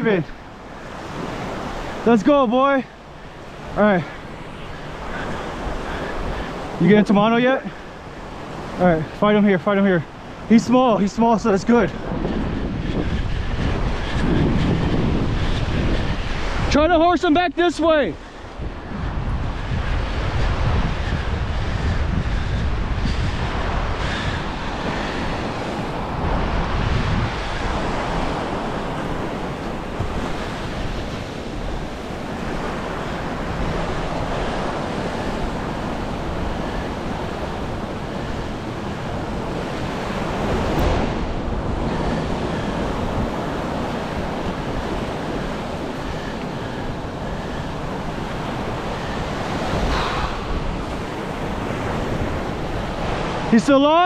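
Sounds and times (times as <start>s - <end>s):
surf breaking on beach: 0.0s - 54.0s
wind buffeting microphone: 0.0s - 54.0s.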